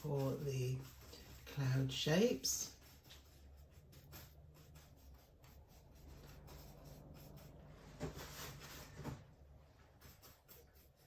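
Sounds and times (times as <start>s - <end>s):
paintbrush strokes on canvas: 0.0s - 11.0s.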